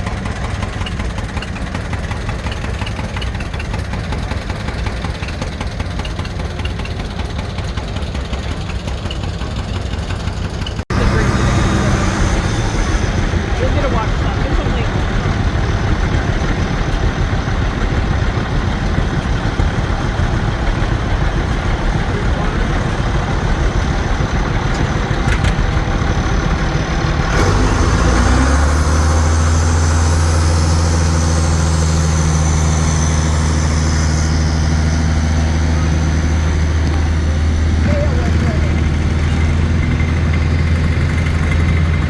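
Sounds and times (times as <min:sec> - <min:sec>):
engine rumbling: 0:00.0 - 0:42.0.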